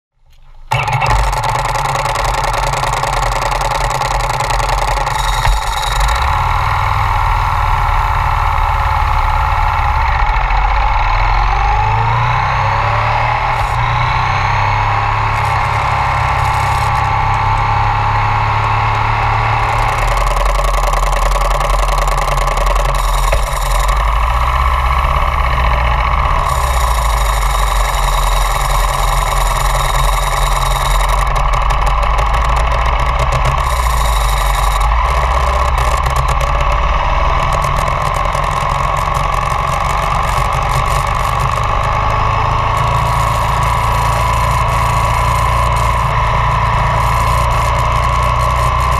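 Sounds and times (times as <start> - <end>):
motorcycle engine revving: 0.6 - 48.9.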